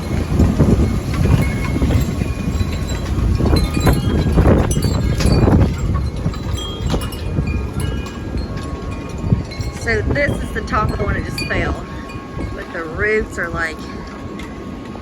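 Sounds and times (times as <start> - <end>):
strong gusting wind on microphone: 0.0 - 15.0.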